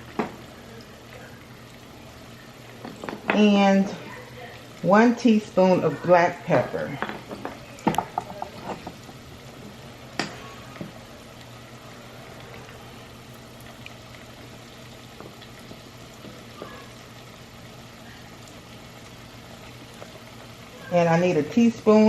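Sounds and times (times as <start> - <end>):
potatoes sizzling in a pot: 0.0 - 22.0.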